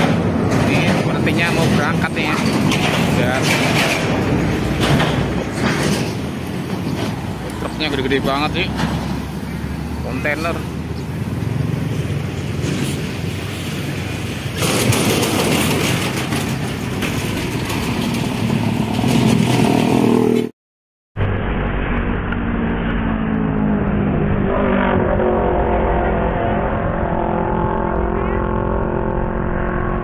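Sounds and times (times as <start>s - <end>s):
deep traffic rumble: 0.0s - 20.5s, 21.2s - 30.0s
motorcycle engines revving: 0.0s - 20.5s, 21.6s - 30.0s
vehicles and trucks passing: 0.0s - 20.5s, 21.2s - 30.0s.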